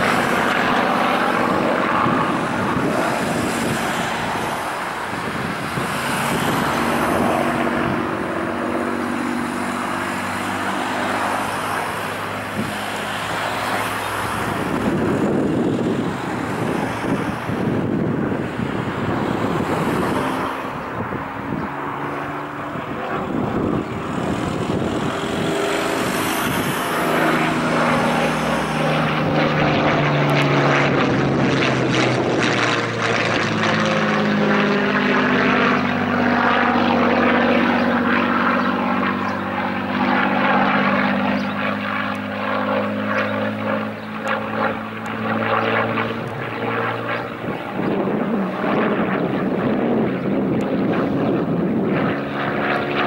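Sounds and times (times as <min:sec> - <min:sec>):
propeller plane flying overhead: 0:00.0 - 0:53.0.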